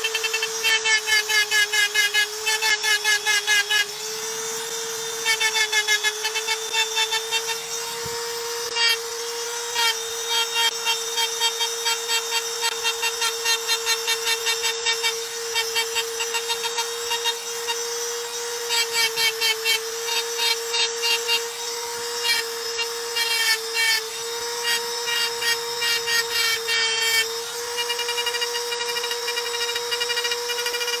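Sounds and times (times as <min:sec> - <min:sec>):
electric grinder grinding stone: 0:00.0 - 0:31.0.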